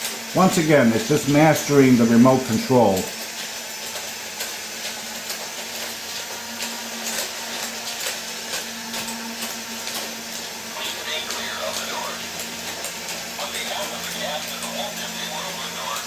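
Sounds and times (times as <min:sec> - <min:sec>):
toy train motors whirring: 0:00.0 - 0:16.0.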